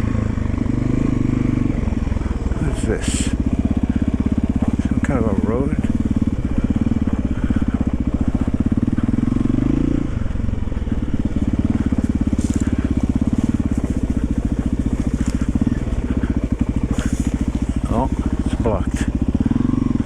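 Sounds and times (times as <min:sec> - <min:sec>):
motorcycle engine thumping: 0:00.0 - 0:20.0.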